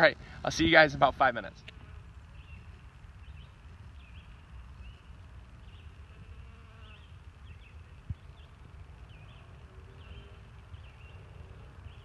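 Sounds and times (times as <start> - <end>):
faint bee buzzing: 1.5 - 12.0.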